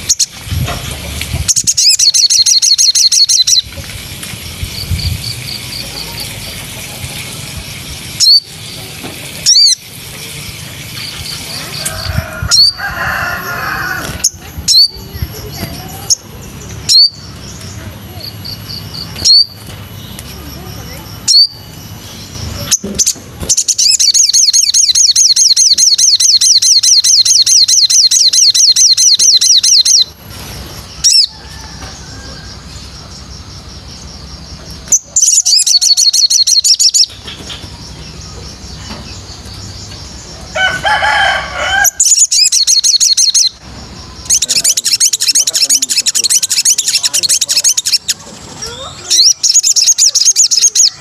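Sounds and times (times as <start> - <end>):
bird chattering call: 1.4 - 3.7, 4.8 - 19.6, 20.5 - 30.2, 30.9 - 51.0
songbird trilling: 1.5 - 3.8, 7.4 - 19.6, 20.6 - 30.2, 30.9 - 51.0.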